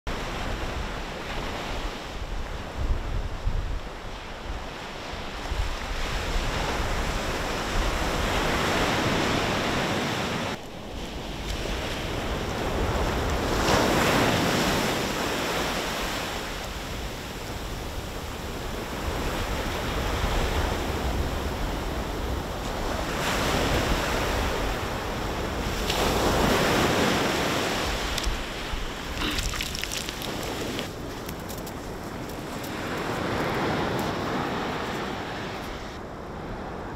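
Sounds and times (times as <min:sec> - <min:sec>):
wind rumbling on microphone: 0:00.1 - 0:36.9
ocean surf breaking: 0:04.2 - 0:31.1, 0:31.9 - 0:36.9.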